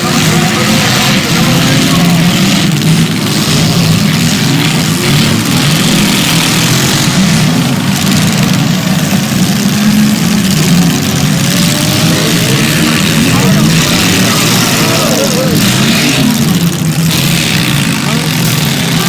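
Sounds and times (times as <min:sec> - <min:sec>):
car engines droning: 0:00.0 - 0:19.0.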